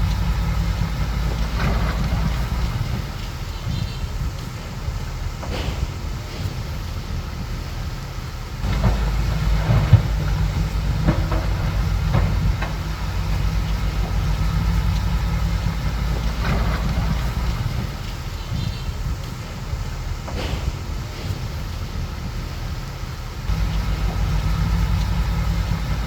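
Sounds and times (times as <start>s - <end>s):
bulldozer diesel engine running: 0.0s - 26.0s
metallic clanks: 0.0s - 26.0s.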